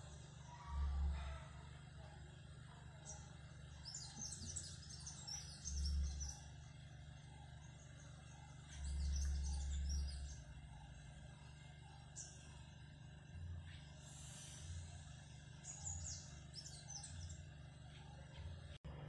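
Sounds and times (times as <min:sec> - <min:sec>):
small birds chirping: 0:00.0 - 0:18.8
steady low background hum: 0:00.0 - 0:19.0.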